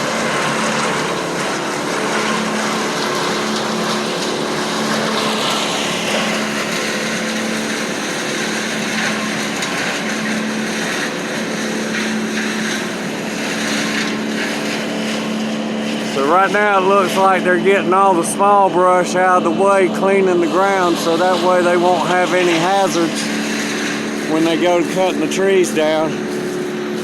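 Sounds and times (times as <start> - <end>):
broad rushing noise: 0.0 - 27.0
engine droning: 0.0 - 27.0.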